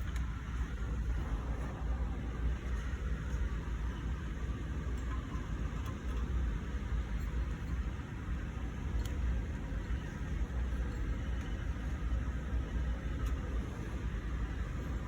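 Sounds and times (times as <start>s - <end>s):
lathe low rumble: 0.0s - 15.0s.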